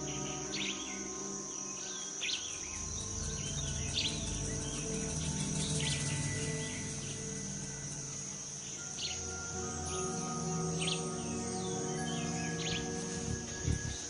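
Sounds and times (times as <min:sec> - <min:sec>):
insects droning: 0:00.0 - 0:14.0
soft background music: 0:00.0 - 0:14.0.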